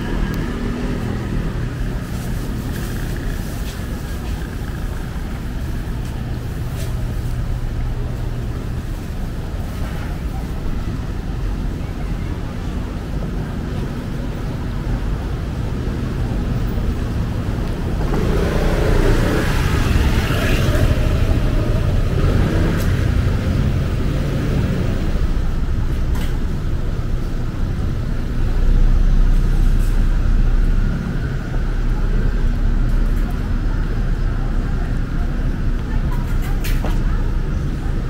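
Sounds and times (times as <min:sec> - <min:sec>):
city street rumble: 0:00.0 - 0:38.0.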